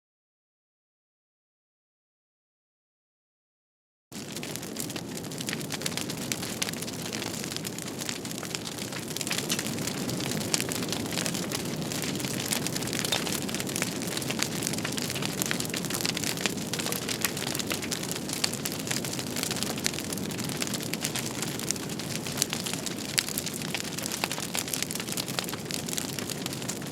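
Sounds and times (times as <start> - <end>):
fire crackling: 4.1 - 26.9
low rushing of flames: 4.2 - 26.9.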